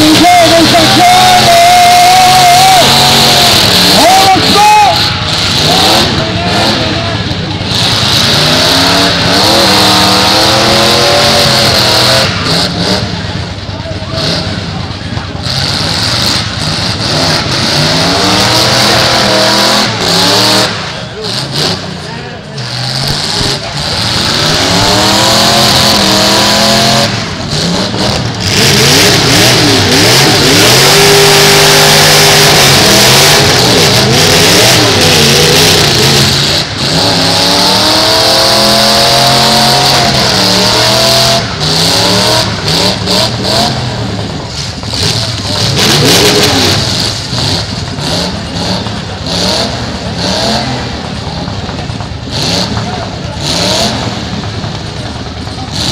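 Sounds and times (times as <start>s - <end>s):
car engines revving hard: 0.0s - 55.9s.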